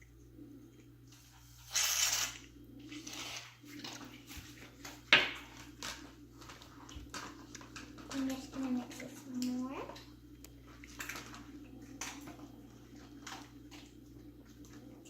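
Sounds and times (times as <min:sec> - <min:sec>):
slime stirred with stick: 0:02.8 - 0:15.0.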